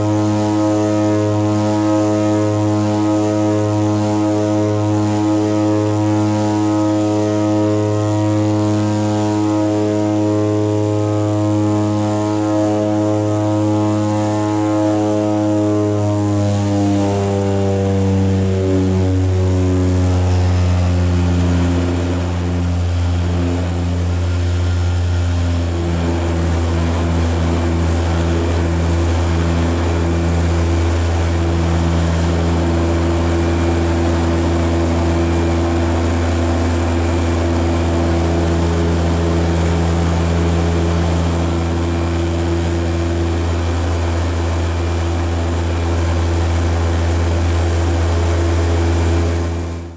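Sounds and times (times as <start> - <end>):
turboprop cabin drone: 0.0 - 49.9.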